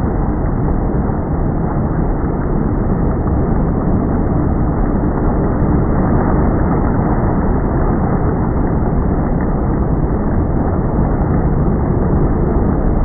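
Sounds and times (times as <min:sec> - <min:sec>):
motorboat engine and water: 0:00.0 - 0:13.0.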